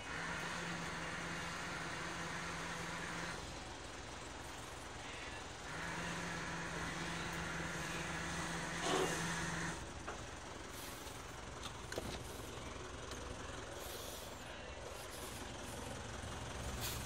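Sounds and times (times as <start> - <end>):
winch motor humming: 0.0 - 17.0.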